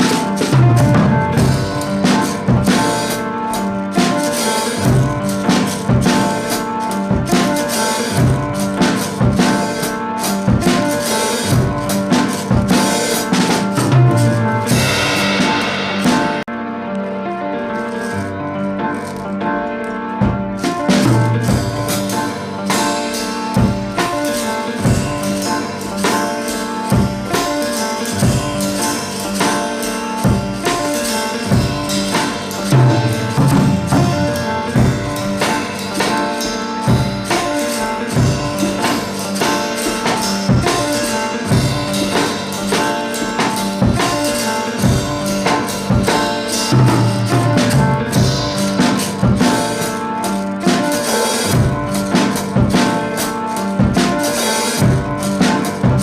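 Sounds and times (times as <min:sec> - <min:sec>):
drum beat: 0:00.0 - 0:16.5, 0:20.2 - 0:56.0
instrumental pop music: 0:00.0 - 0:56.0.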